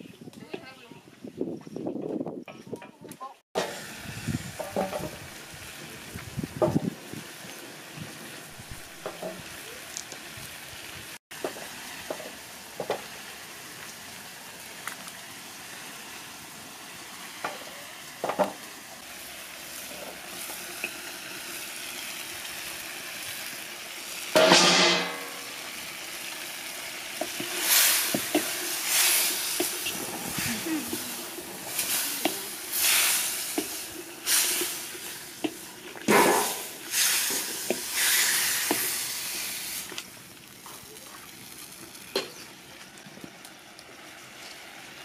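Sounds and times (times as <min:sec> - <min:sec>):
meat sizzling in a wok: 0:03.6 - 0:43.0, 0:43.6 - 0:45.0.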